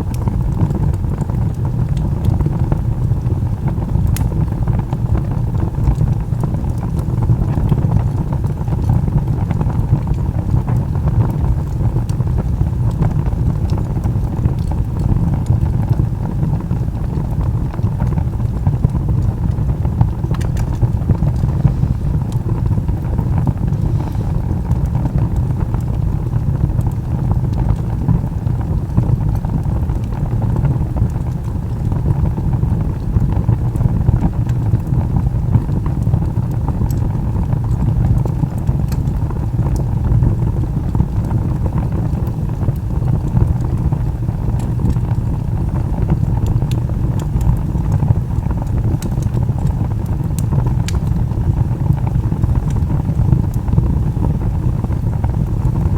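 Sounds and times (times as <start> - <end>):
burning logs crackling and popping: 0.0 - 55.9
low roar of flames: 0.0 - 55.9.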